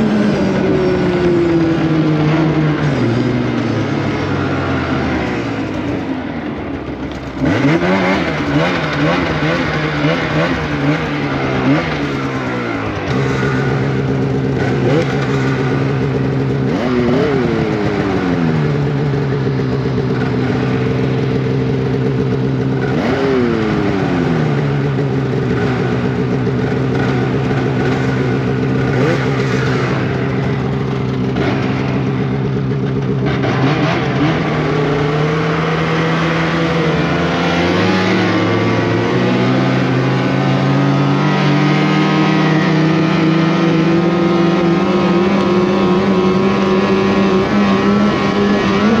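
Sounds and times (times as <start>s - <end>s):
snowmobile engine running: 0.0s - 49.0s.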